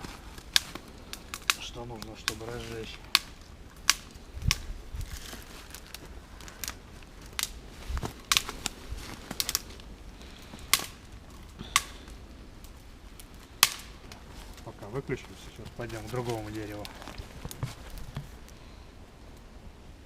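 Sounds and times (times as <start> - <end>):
dry twigs snapping: 0.0 - 18.6.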